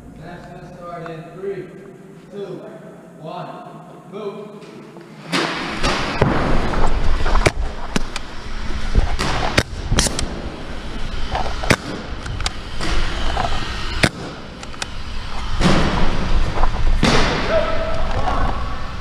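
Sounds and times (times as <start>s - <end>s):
continuous noisy background: 0.0s - 19.0s.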